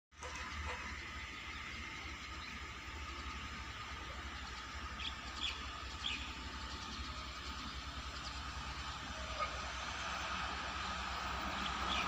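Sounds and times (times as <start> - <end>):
distant train rumble and hum: 0.2 - 12.0.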